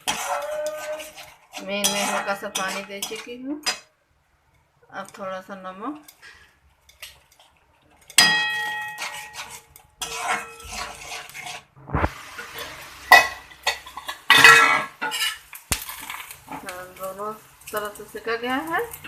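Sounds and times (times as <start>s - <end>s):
metal spoon scraping in a pan: 0.0s - 3.9s, 4.9s - 19.0s.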